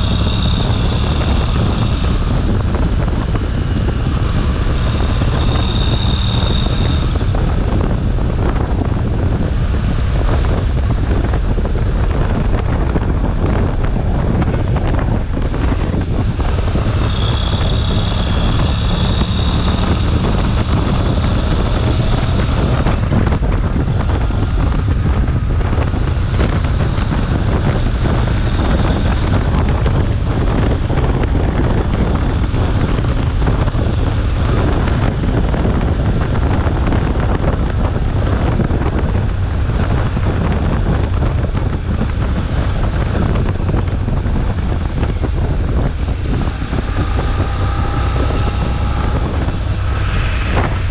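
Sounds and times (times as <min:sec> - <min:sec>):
motorcycle engine and road noise: 0:00.0 - 0:50.9
wind buffeting microphone: 0:00.0 - 0:50.9.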